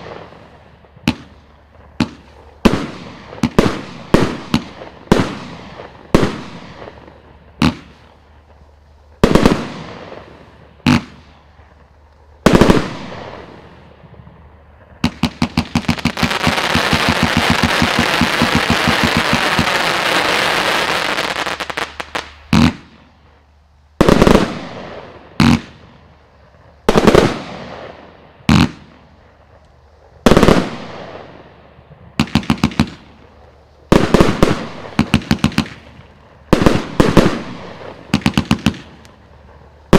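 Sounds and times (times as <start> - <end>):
dense firework crackle: 0.0 - 39.9
firework shots: 0.0 - 39.9.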